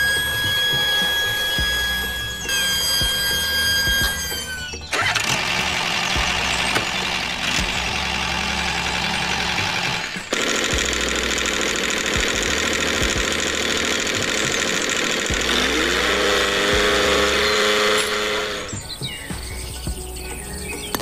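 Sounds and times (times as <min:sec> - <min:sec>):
small electric motor whirring: 0:00.0 - 0:19.0.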